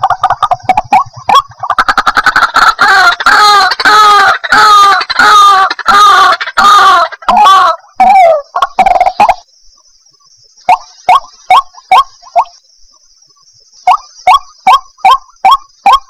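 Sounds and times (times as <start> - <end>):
waterhen croaking calls: 0.0 - 9.5, 10.6 - 12.6, 13.8 - 16.0.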